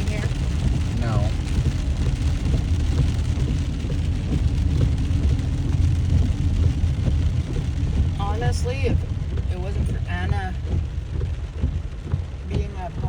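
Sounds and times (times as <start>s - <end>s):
rain hitting car: 0.0s - 13.0s
road and engine rumble in car: 0.0s - 13.0s.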